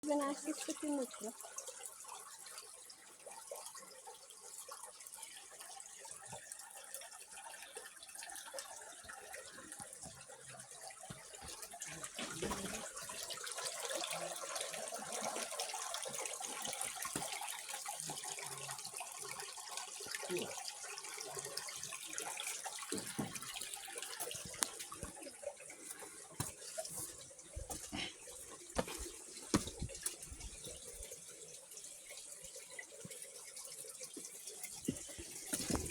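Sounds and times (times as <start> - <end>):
stream flowing and splashing: 0.1 - 35.9.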